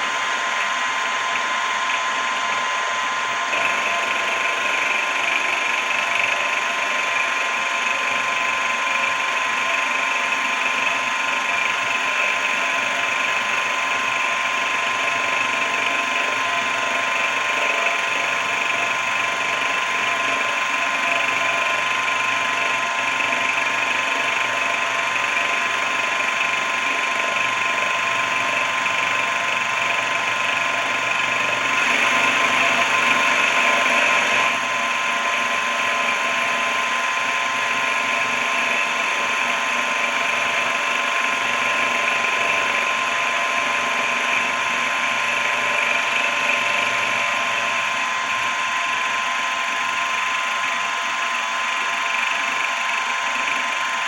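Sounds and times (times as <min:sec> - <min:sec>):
mill drill motor whine: 0:00.0 - 0:54.0.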